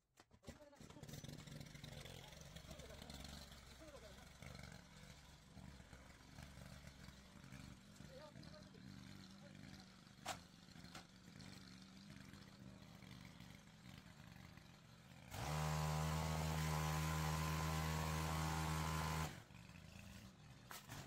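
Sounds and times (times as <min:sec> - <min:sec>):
powered pole saw running: 0:00.8 - 0:21.0.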